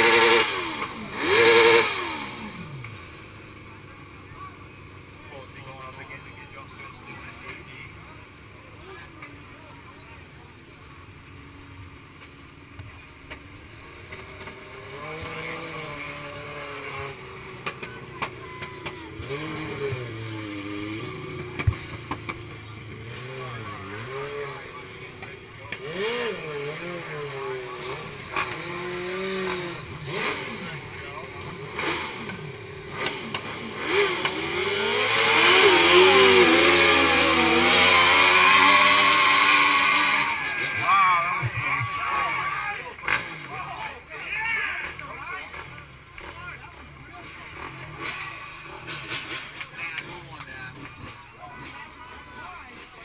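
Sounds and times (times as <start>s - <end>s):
motorcycle engine revving: 0.0s - 9.9s, 12.8s - 53.0s.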